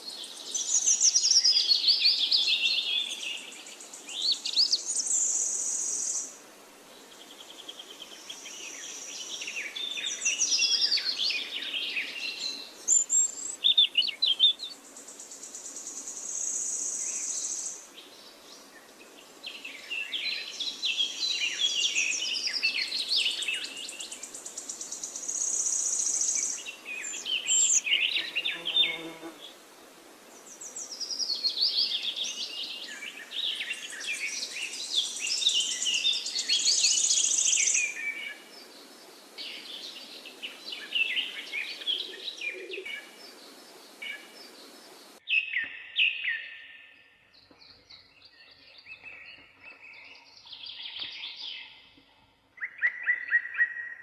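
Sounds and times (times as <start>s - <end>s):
steady background hiss: 0.0s - 45.4s
songbirds singing: 0.0s - 54.0s.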